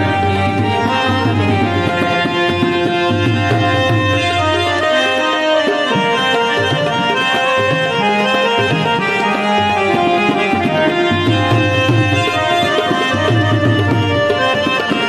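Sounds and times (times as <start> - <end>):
harmonium chords and melody: 0.0 - 15.0
tabla strokes: 0.0 - 15.0.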